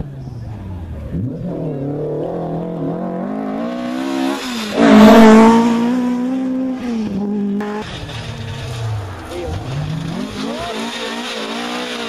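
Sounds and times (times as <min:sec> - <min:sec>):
rally car engine accelerating past: 0:00.2 - 0:12.0.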